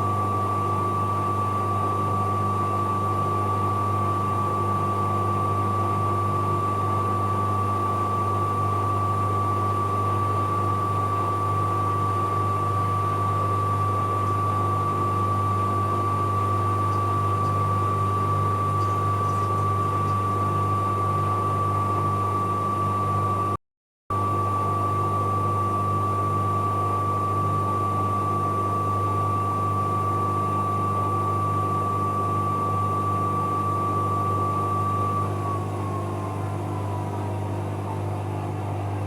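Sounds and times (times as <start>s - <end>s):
washing machine spinning: 0.0s - 23.5s, 24.6s - 39.0s.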